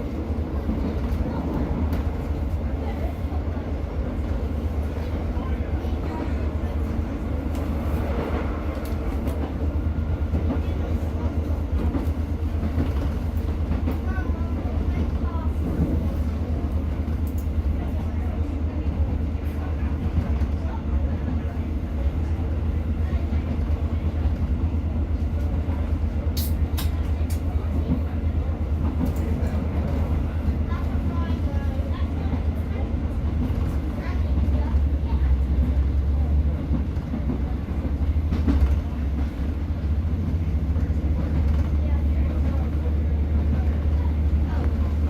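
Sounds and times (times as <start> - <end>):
train wheels on track: 0.0 - 45.0.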